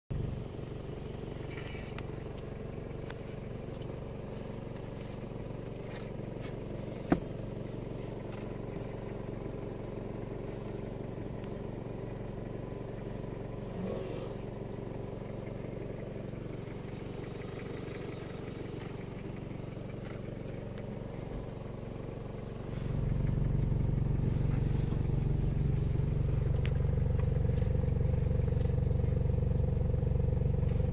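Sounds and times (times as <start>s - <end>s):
vehicle engine running: 0.1s - 30.9s.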